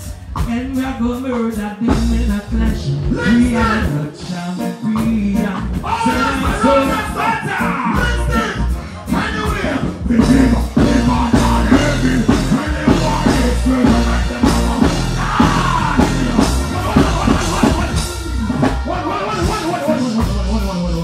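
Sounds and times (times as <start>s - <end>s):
heavy bass beat: 0.0s - 21.0s
live reggae music: 0.0s - 21.0s
man singing into a microphone: 0.3s - 21.0s.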